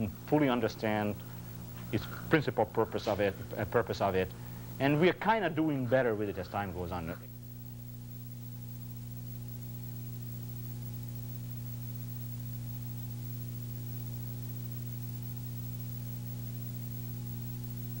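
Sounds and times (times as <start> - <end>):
electrical hum: 0.0 - 18.0
tape hiss: 0.0 - 18.0.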